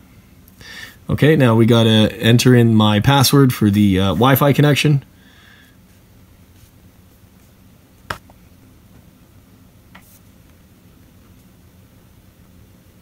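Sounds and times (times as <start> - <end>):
faint low steady hum: 0.0 - 13.0.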